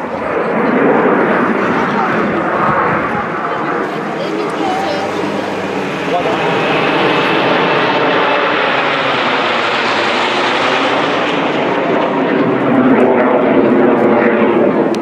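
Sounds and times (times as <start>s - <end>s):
jet aircraft engine roar: 0.0s - 15.0s.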